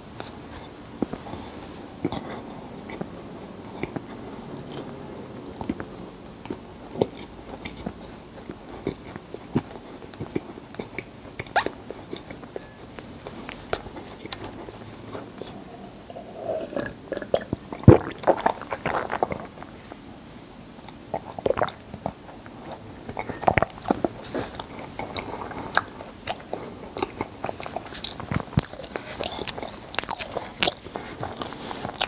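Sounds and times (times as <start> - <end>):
person chewing bread: 0.0 - 20.0, 20.8 - 32.0.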